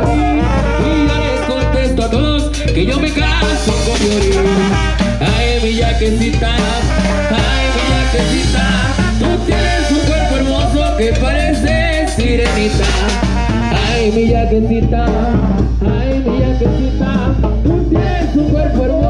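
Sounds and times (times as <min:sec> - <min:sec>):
brass band playing loud: 0:00.0 - 0:19.0.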